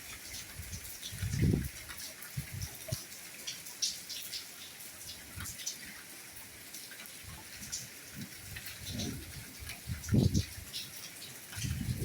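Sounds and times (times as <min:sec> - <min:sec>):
raindrops ticking and splashing: 0:00.0 - 0:12.0
soft rain hiss: 0:00.0 - 0:12.0.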